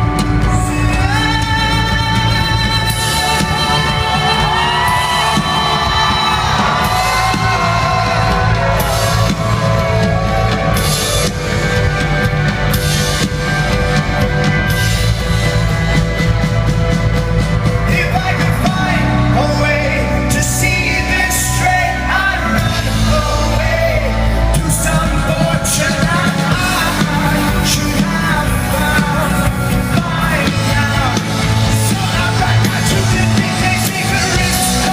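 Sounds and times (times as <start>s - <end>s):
lead singer singing: 0.0s - 12.9s, 17.8s - 34.9s
rock band playing live: 0.0s - 34.9s.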